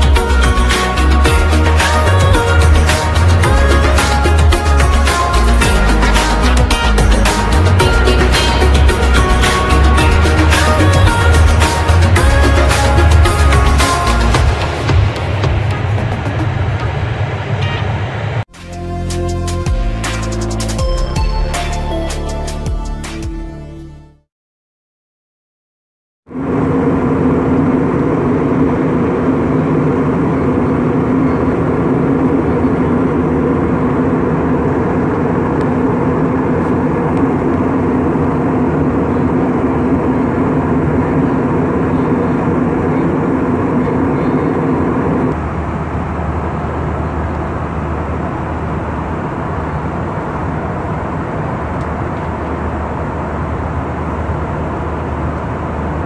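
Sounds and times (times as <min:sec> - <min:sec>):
jet airliner cabin roar: 0:00.0 - 0:21.8, 0:26.3 - 0:56.0.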